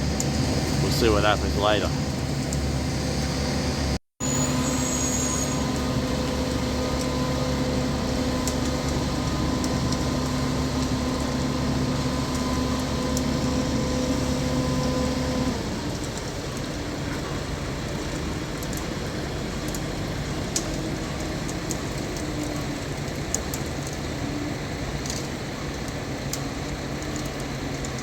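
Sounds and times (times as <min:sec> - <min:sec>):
diesel engine humming: 0:00.0 - 0:22.8.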